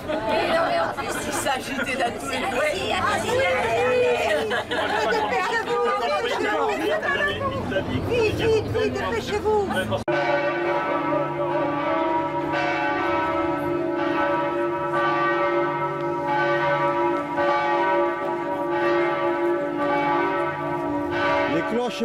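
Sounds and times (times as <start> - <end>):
large church bells ringing: 2.4 - 22.0.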